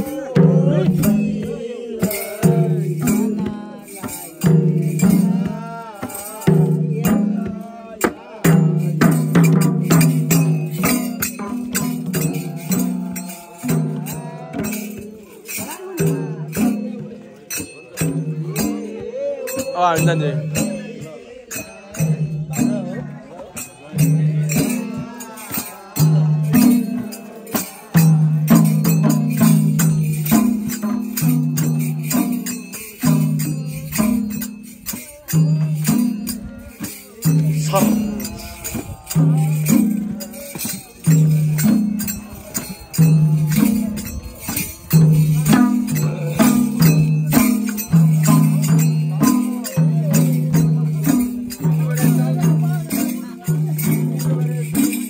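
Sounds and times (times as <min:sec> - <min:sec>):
hand drums playing folk rhythm: 0:00.0 - 0:55.0.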